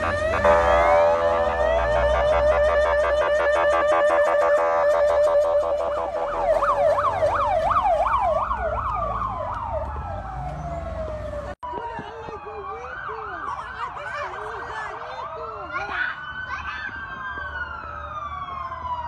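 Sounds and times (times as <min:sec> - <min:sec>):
police sirens yelping: 0:00.0 - 0:19.0
siren wailing: 0:00.0 - 0:19.0
siren warble: 0:00.0 - 0:19.0.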